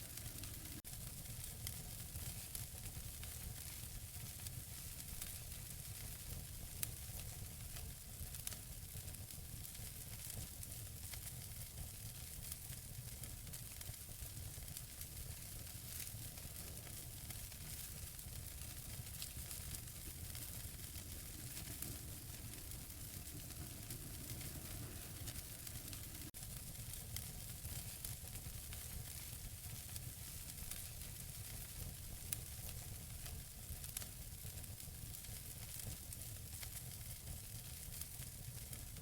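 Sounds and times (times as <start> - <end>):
fire crackles and pops: 0.0 - 39.0
wood fire hissing: 0.0 - 39.0.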